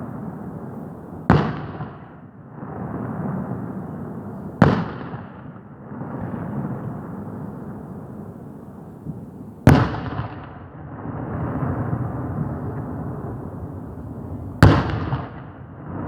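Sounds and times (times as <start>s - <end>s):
rumble and crackle of fireworks: 0.0s - 16.0s.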